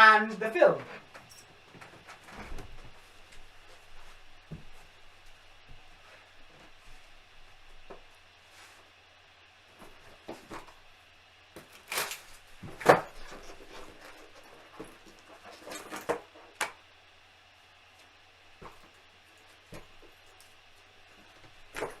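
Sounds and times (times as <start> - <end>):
rustling and handling noises: 0.3 - 16.8, 17.9 - 22.0.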